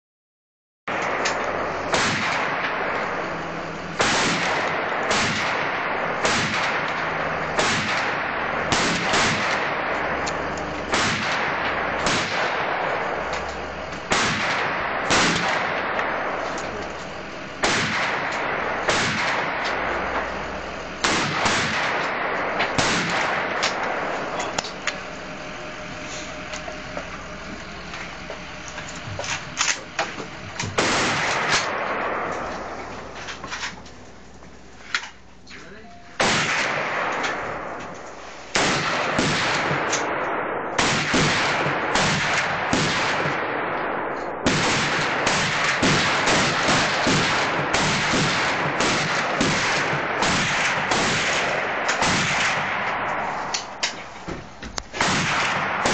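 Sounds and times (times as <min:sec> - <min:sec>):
rifle gunshots: 0:00.9 - 0:28.6, 0:29.2 - 0:33.7, 0:36.2 - 0:37.8, 0:38.5 - 0:54.0, 0:54.9 - 0:55.9.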